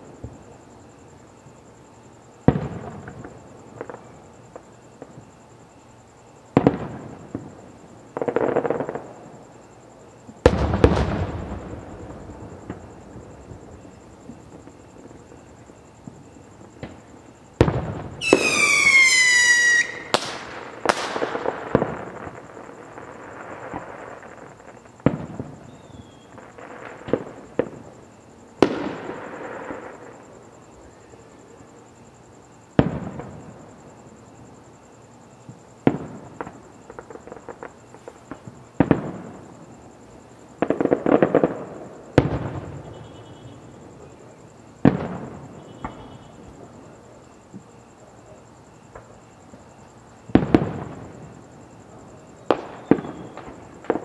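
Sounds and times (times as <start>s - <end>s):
fireworks booming: 0.0s - 0.6s, 2.4s - 5.4s, 6.4s - 9.7s, 10.3s - 31.7s, 32.7s - 34.5s, 35.4s - 47.7s, 48.9s - 54.0s
whistling firework: 2.4s - 5.5s, 6.5s - 9.7s, 10.4s - 31.7s, 32.6s - 34.4s, 35.4s - 47.7s, 48.7s - 54.0s.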